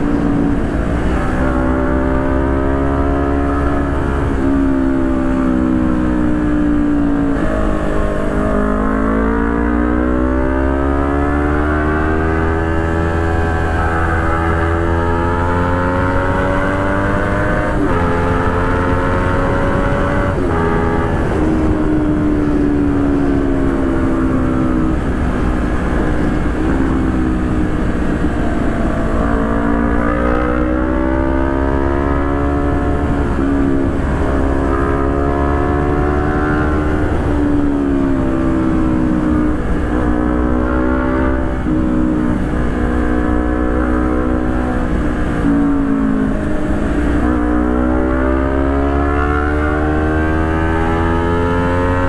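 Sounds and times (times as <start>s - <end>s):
motorcycle engine under way: 0.0s - 52.0s.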